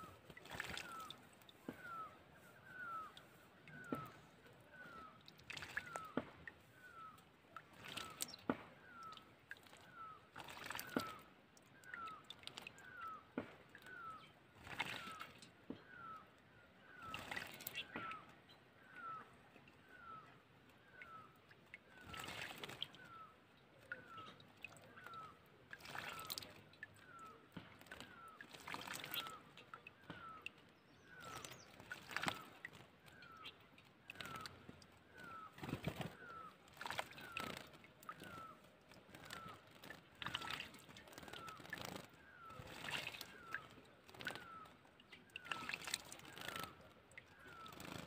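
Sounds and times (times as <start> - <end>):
bird splashing in water: 0.0 - 16.2, 16.8 - 18.3, 20.9 - 48.0
bird chirping: 0.0 - 25.4, 26.0 - 48.0.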